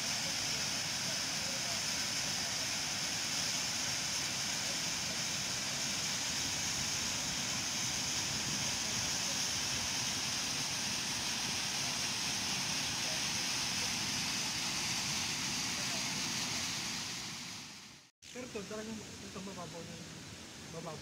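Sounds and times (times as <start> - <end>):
water rushing over spillway: 0.0 - 17.8.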